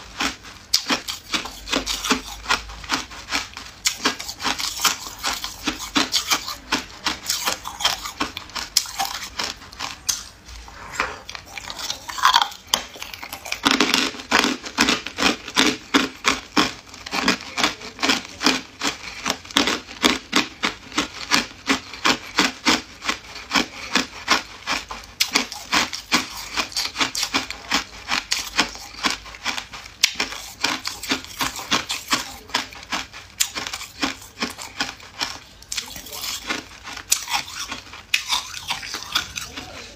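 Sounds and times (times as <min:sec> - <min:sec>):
ice cubes crunched between teeth: 0:00.0 - 0:10.4, 0:11.3 - 0:39.9.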